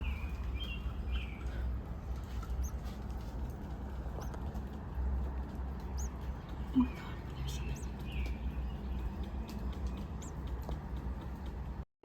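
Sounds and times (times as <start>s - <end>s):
baby birds peeping: 0.0s - 11.8s
steady low rumble: 0.0s - 11.8s.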